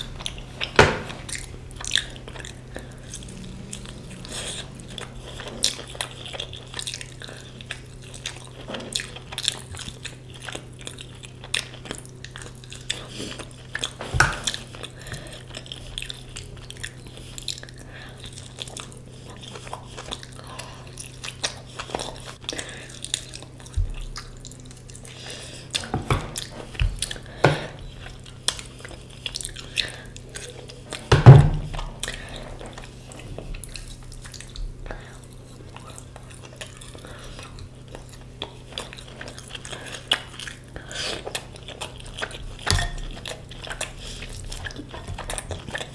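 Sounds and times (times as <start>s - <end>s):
chewing and biting food: 0.0s - 45.9s
steady low hum: 0.0s - 45.9s.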